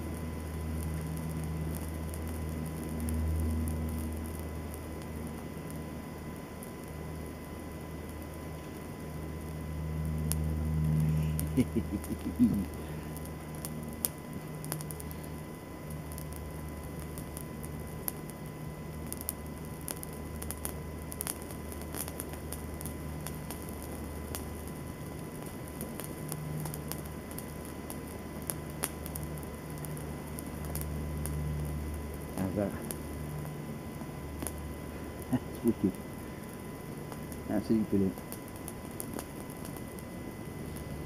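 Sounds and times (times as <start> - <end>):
fire crackling and popping: 0.0 - 41.0
steady low hum: 0.0 - 41.0.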